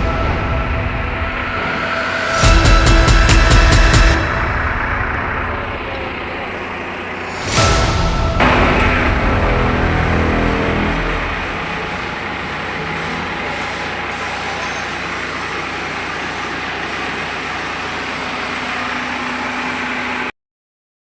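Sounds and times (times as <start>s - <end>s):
heavy machinery droning: 0.0s - 20.3s.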